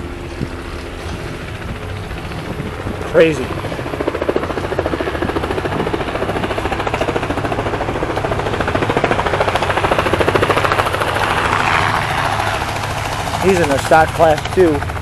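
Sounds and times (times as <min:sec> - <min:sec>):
motor chopping pulses: 0:00.0 - 0:15.0.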